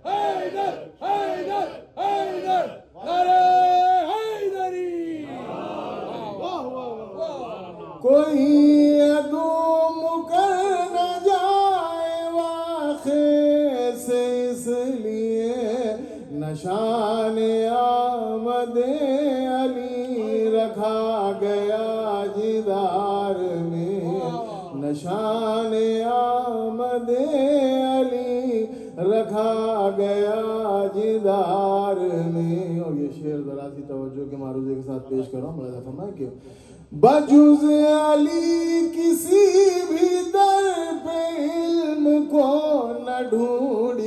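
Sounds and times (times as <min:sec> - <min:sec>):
man singing devotional poetry: 0:08.0 - 0:44.0.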